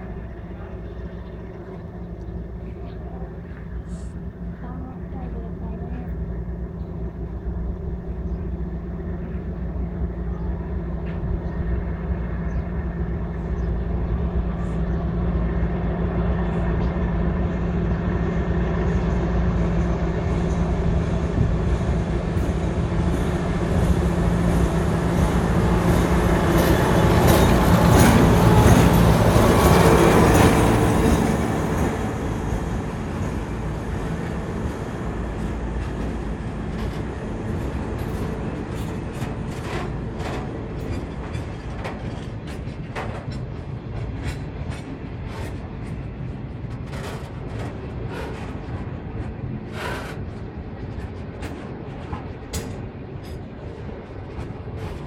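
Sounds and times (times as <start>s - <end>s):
locomotive engine drone: 0.0s - 55.0s
train wheels clacking on rail joints: 0.0s - 55.0s.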